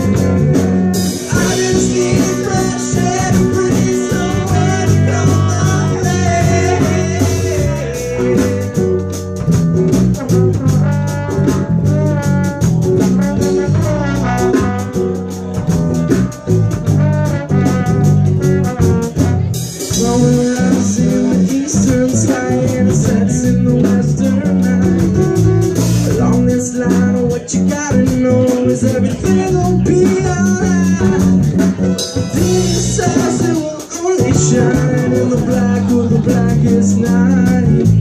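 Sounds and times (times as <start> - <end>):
lead instrument bending melody: 0.0 - 38.0
live band playing: 0.0 - 38.0.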